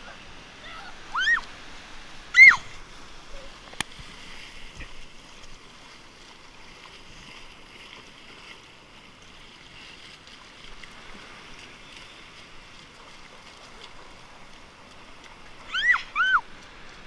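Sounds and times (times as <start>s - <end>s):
shallow surf washing: 0.0s - 17.0s.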